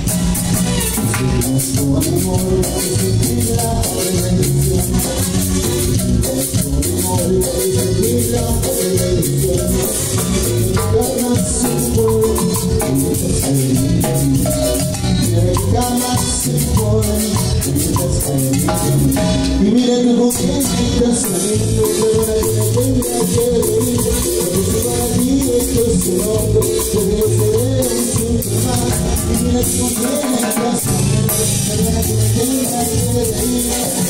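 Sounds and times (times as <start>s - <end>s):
live band playing dance music: 0.0s - 34.0s
percussion beat: 0.0s - 34.0s.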